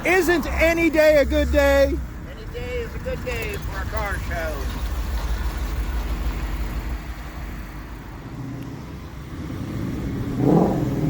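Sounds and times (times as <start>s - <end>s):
car engine running at low speed: 0.1s - 11.0s.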